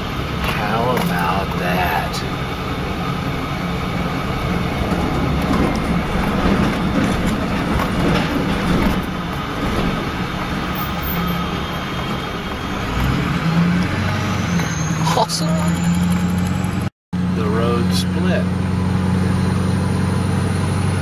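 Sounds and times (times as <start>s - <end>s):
vehicle engine and tyre noise: 0.0s - 21.0s.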